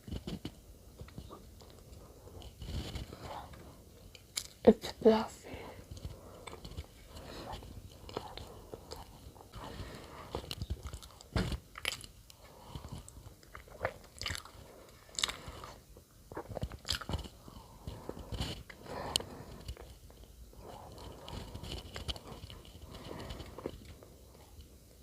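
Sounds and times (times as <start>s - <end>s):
chewing bread: 0.0s - 4.6s, 5.8s - 25.0s.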